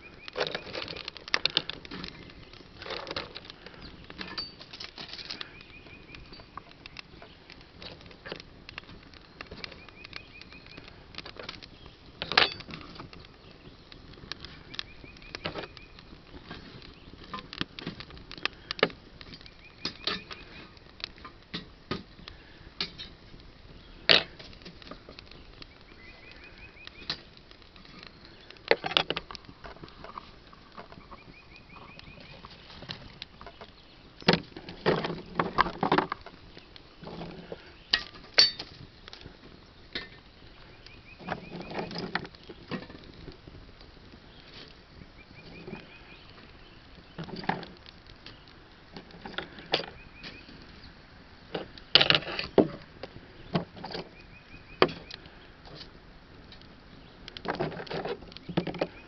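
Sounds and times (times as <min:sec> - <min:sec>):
dry sticks snapping: 0:00.0 - 0:50.8, 0:51.5 - 0:59.0.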